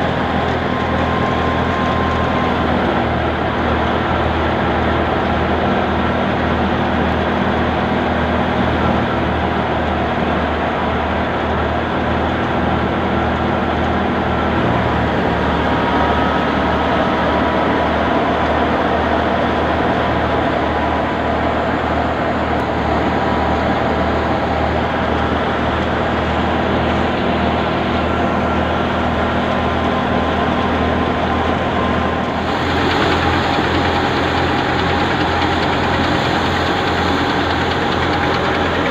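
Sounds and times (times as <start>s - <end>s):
threshing machine running: 0.0s - 38.9s.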